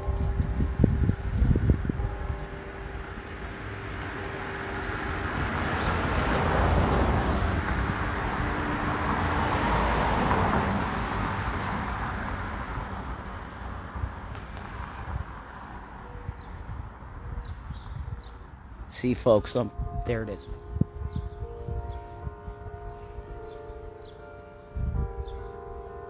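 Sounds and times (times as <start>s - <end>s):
vehicle passing: 0.0s - 26.0s.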